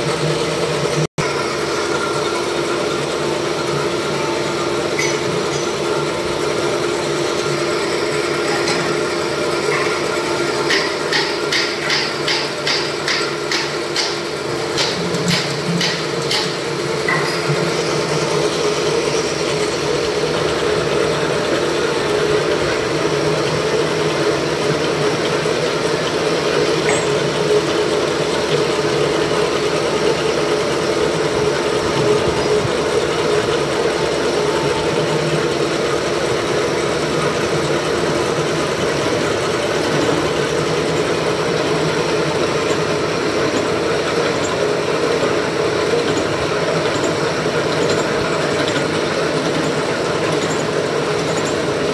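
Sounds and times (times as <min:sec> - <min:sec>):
milling machine running: 0:00.0 - 0:51.9.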